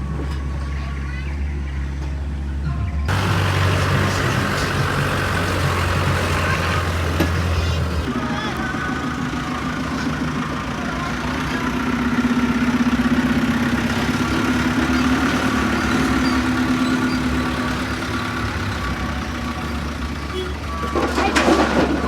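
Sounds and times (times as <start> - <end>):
dump truck engine humming: 0.0 - 22.0.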